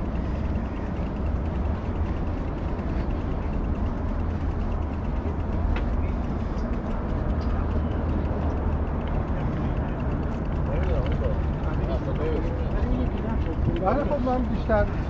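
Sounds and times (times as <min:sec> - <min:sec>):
bicycle freewheel ticking: 0:00.0 - 0:15.0.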